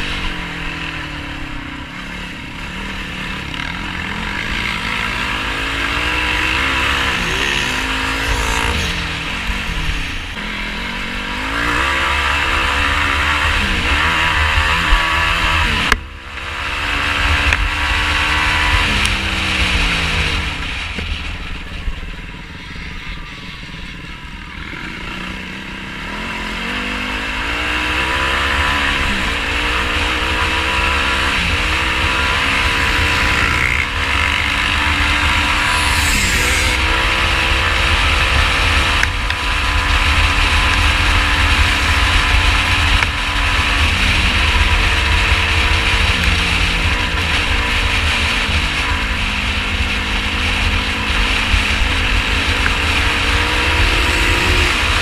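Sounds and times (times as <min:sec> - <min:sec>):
quad engine revving: 0:00.0 - 0:20.7, 0:24.6 - 0:55.0.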